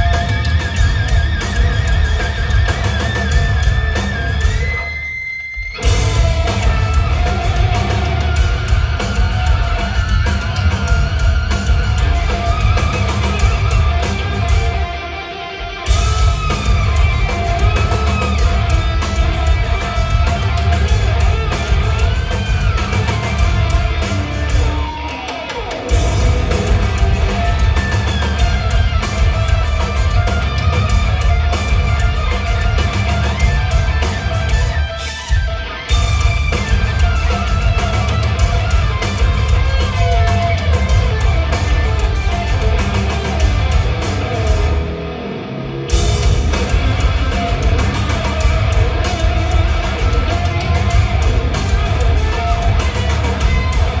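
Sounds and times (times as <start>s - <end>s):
lead electric guitar bending: 0.0s - 54.0s
rock band playing: 0.0s - 54.0s.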